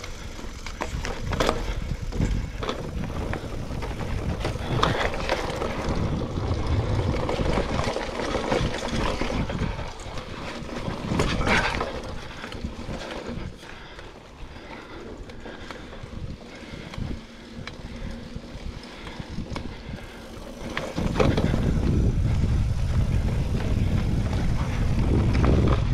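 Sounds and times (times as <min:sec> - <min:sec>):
bike rattling and knocking: 0:00.0 - 0:25.9
bike tyre and drivetrain rumble: 0:00.0 - 0:25.9.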